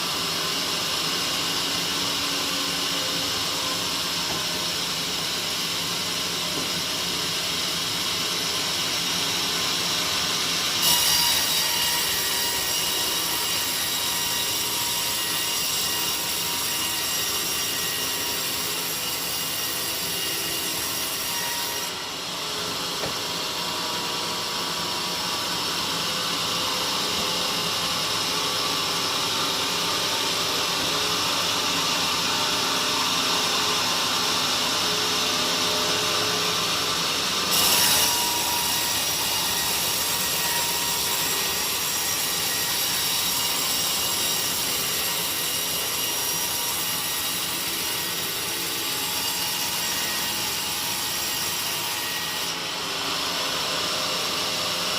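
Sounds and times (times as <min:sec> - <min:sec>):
sawmill saw cutting log: 0:00.0 - 0:54.9.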